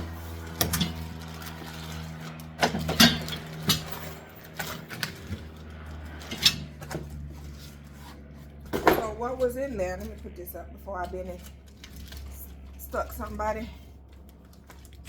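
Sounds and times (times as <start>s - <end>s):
plane droning overhead: 0.0s - 15.0s.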